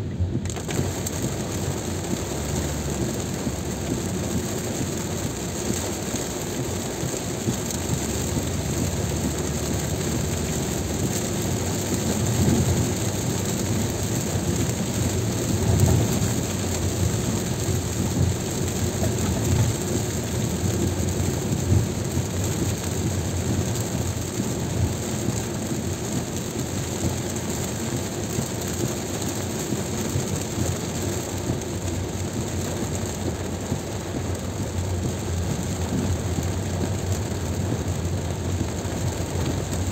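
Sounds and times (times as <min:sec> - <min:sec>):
heavy rain on a car: 0:00.0 - 0:39.9
low road rumble: 0:00.0 - 0:39.9
tyres hissing on wet road: 0:00.0 - 0:39.9.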